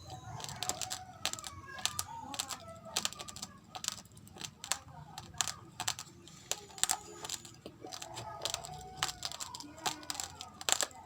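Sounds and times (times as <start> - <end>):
rice grains crunching when chewed: 0.3 - 11.0.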